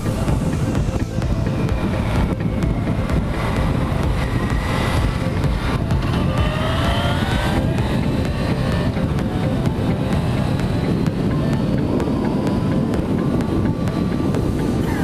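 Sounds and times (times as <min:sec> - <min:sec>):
motorcycle engine accelerating: 0:00.0 - 0:15.0
wind rumble on microphone: 0:00.0 - 0:15.0.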